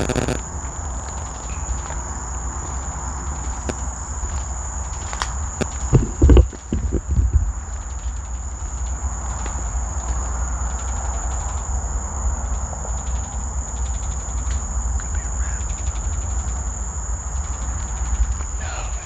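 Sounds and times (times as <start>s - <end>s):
faint crackling hiss: 0.0s - 19.0s
high-pitched insect-like trill: 0.0s - 19.0s.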